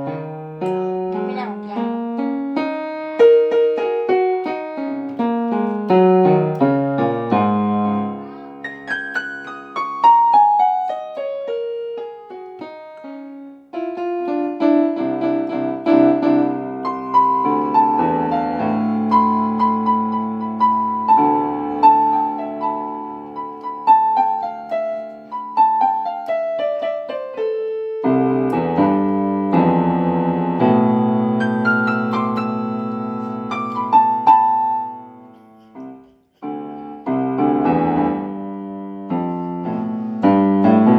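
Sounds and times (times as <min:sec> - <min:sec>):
piano playing: 0:00.0 - 0:40.9.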